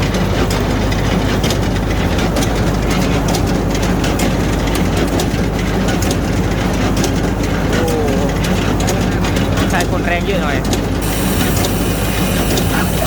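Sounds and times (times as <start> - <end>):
baler mechanism clicking and clattering: 0.0 - 13.0
heavy engine running: 0.0 - 13.0.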